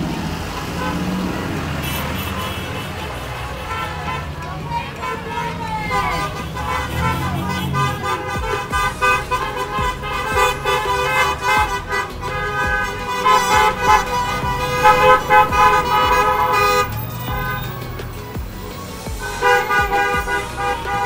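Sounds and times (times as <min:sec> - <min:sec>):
car horns honking: 0:00.0 - 0:21.0.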